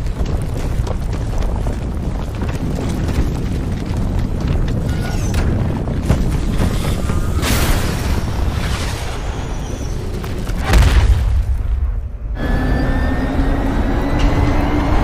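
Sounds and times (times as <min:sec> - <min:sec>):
deep continuous rumble: 0:00.0 - 0:15.0.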